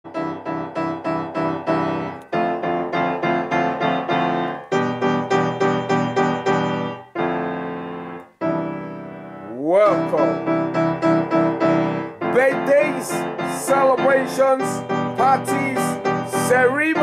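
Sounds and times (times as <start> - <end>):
grand piano chords: 0.1 - 17.0.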